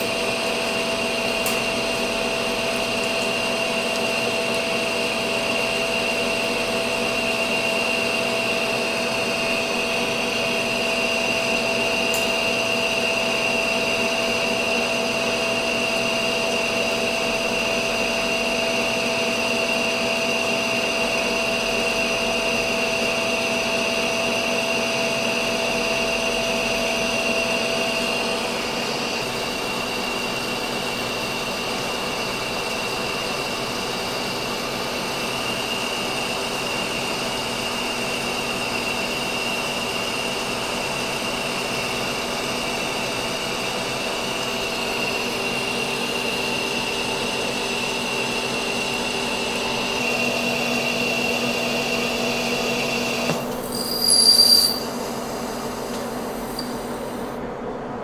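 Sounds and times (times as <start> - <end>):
lathe humming with high whine: 0.0 - 58.0.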